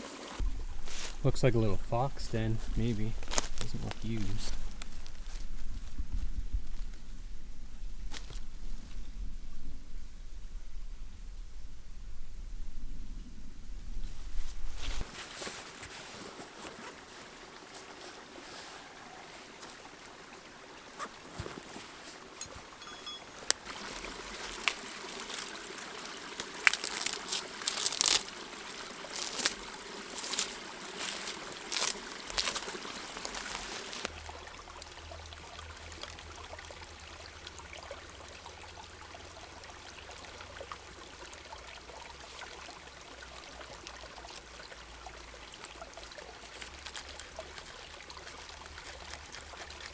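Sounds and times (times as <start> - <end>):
creek water trickling: 0.0 - 49.9.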